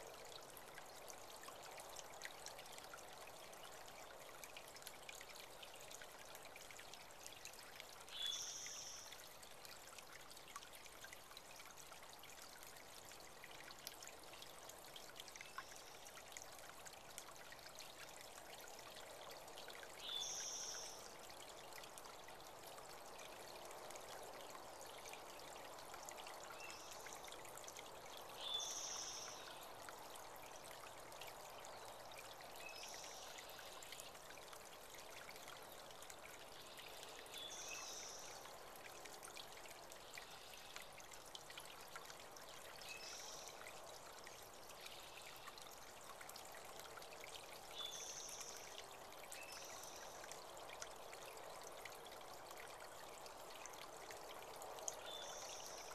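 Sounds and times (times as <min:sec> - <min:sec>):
creek trickling: 0:00.0 - 0:55.9.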